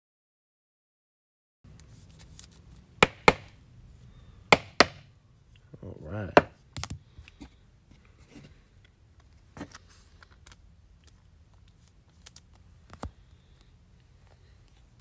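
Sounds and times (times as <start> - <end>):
low room hum: 1.7 - 15.0.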